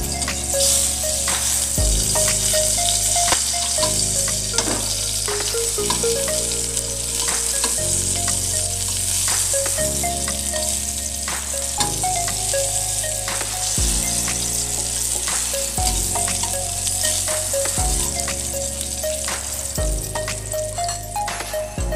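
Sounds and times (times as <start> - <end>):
background music with bass: 0.0 - 21.9.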